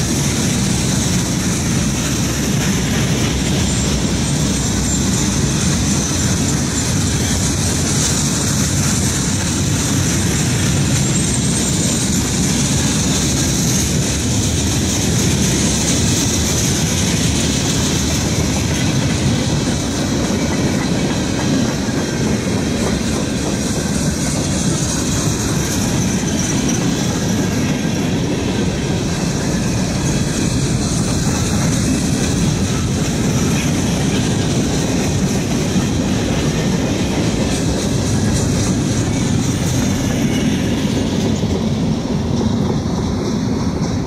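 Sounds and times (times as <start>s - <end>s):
freight train wheels rumbling: 0.0s - 44.0s
wheels clacking over rail joints: 0.0s - 44.0s.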